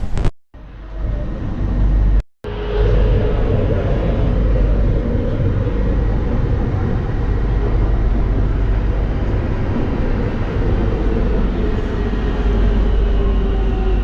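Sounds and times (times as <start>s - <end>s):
underground train rumbling: 0.0s - 14.0s.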